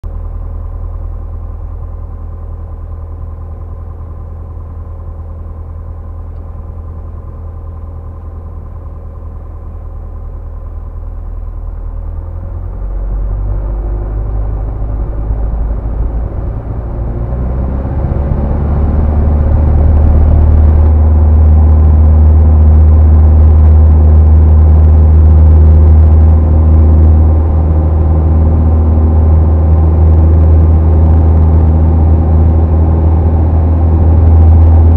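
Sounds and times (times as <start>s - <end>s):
airplane engine and propeller: 0.1s - 34.9s.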